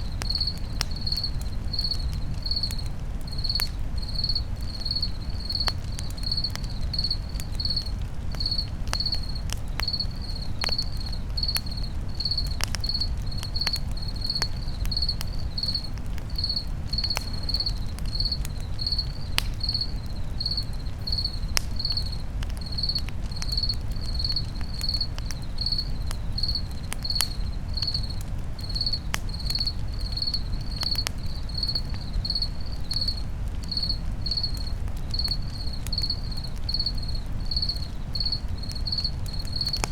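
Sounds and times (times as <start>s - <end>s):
campfire crackling and popping: 0.0s - 39.9s
crickets chirping: 0.0s - 39.9s
low rumble of burning: 0.0s - 39.9s.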